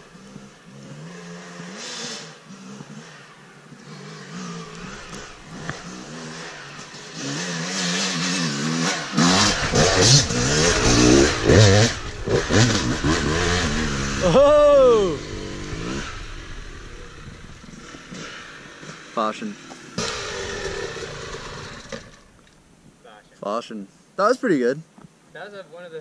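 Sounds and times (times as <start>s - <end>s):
dirt bike revving: 0.0s - 22.3s.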